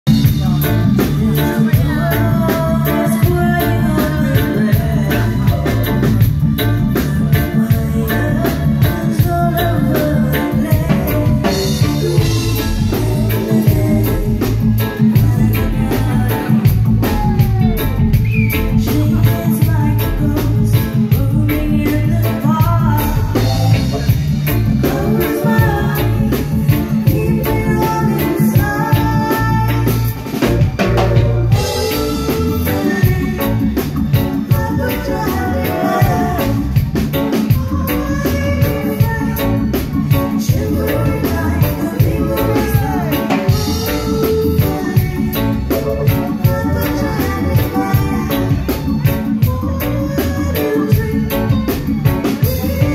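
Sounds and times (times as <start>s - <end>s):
reggae band playing: 0.0s - 52.9s
steady drum beat: 0.0s - 52.9s
woman singing into a microphone: 0.1s - 52.9s.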